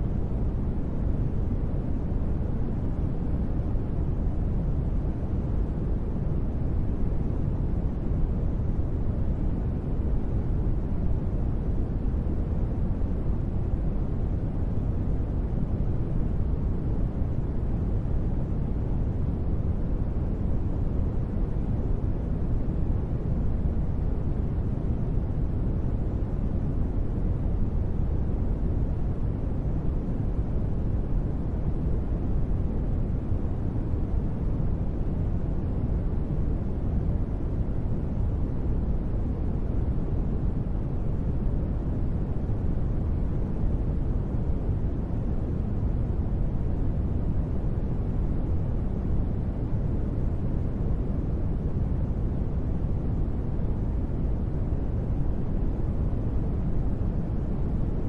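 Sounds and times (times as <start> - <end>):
deep rumbling ambient noise: 0.0 - 58.0.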